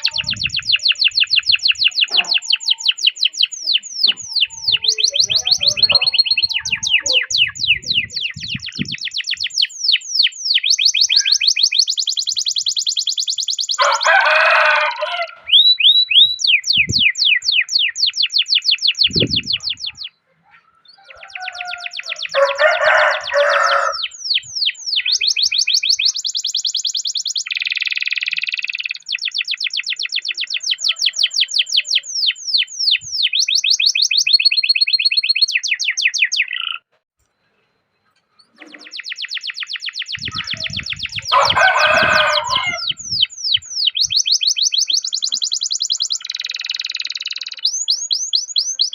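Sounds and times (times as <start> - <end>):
canary singing trills: 0.0 - 36.9, 38.1 - 48.9.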